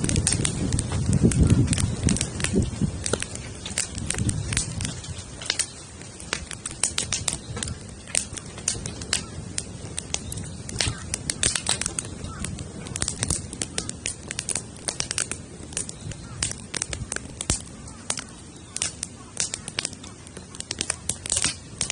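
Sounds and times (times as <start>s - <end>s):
campfire crackling and popping: 0.0s - 21.9s
steady low rumble: 0.0s - 21.9s.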